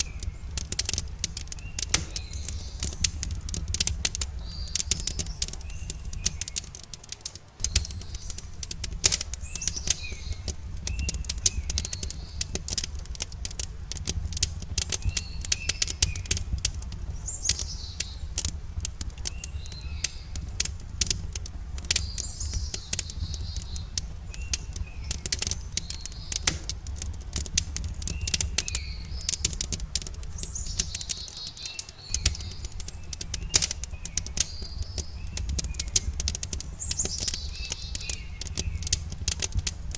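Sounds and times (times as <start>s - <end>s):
campfire crackling and popping: 0.0s - 39.9s
low rumble of flames: 0.0s - 39.9s
small birds chirping: 0.0s - 39.9s.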